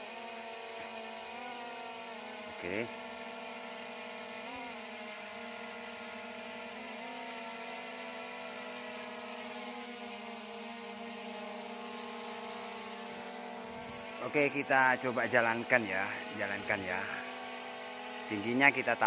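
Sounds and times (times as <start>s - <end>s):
drone propellers humming: 0.8s - 19.0s.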